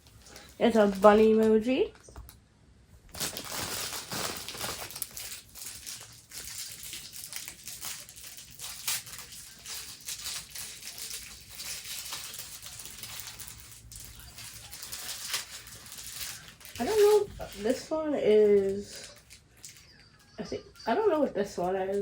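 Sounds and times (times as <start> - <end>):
plastic bag crinkling: 0.0 - 2.1, 3.1 - 22.0.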